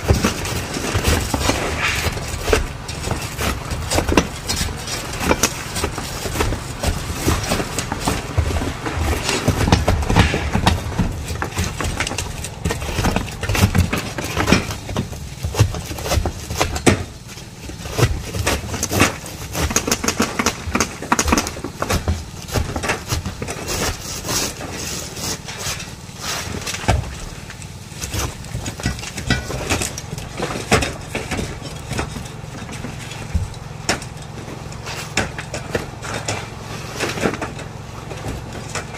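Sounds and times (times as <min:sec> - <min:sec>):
engine running: 0:00.0 - 0:38.9
tools knocking and scraping on shingles: 0:00.0 - 0:38.9.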